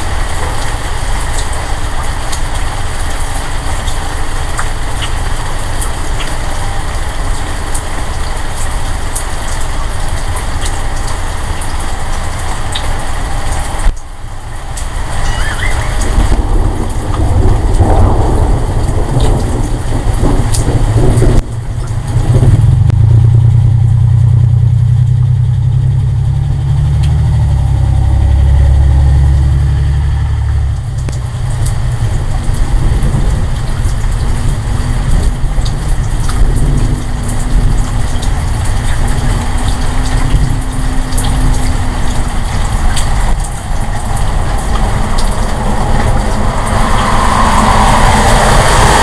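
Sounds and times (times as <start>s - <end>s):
deep engine-like rumble: 0.0s - 49.0s.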